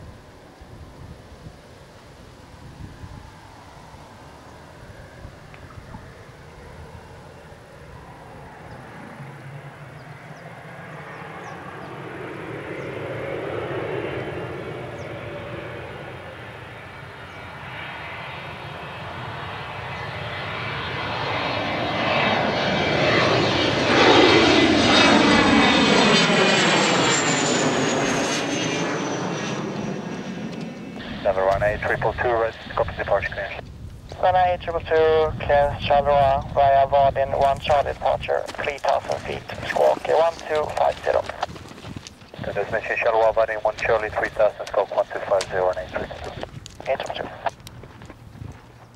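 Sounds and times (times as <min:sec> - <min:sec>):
high turbine whine: 0:00.0 - 0:48.9
jet taking off: 0:02.3 - 0:48.8.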